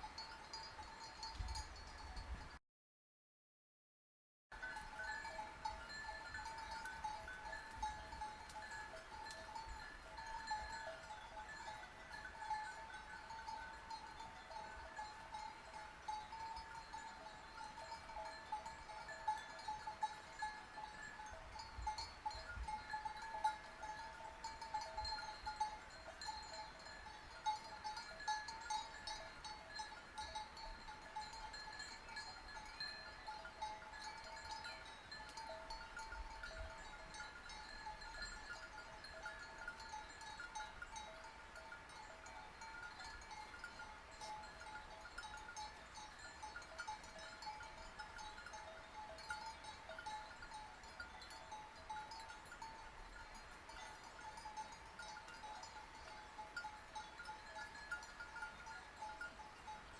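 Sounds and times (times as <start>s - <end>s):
sheep bells clanking: 0.0s - 2.5s, 4.6s - 59.9s.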